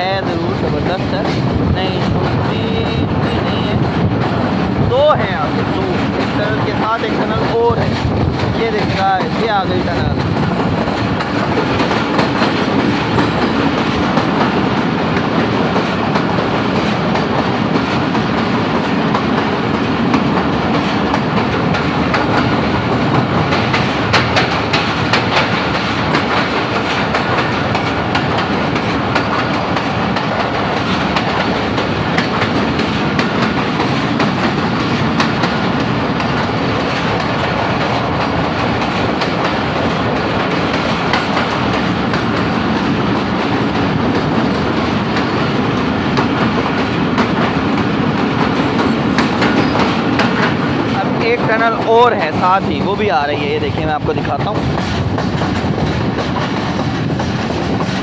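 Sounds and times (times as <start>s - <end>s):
clickety-clack over rail joints: 0.0s - 58.0s
train wheels rumbling: 0.0s - 58.0s.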